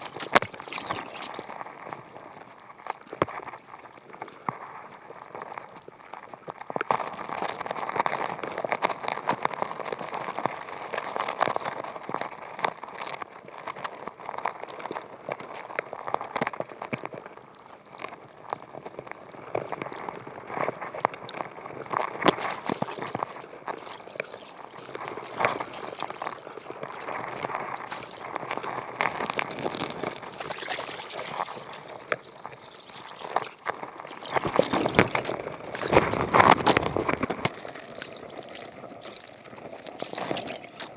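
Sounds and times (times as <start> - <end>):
crabs clicking underwater: 0.0 - 40.9
water noise: 0.0 - 40.9.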